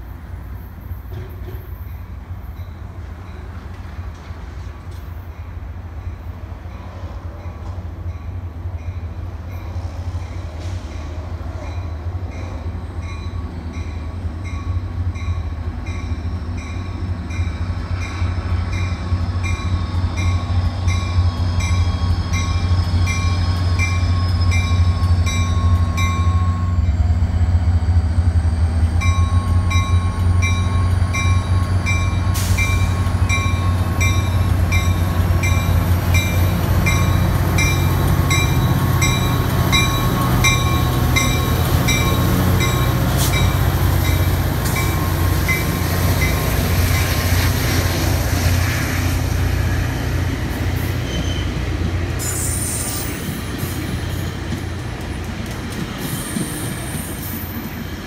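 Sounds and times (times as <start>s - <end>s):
diesel locomotive engine droning: 0.0s - 58.0s.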